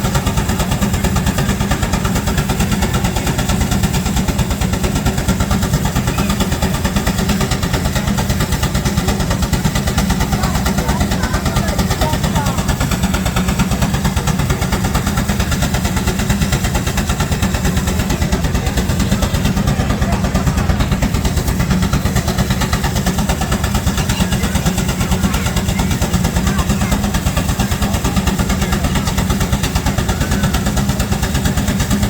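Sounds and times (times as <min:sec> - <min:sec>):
steam engine exhaust chuffing: 0:00.0 - 0:32.0.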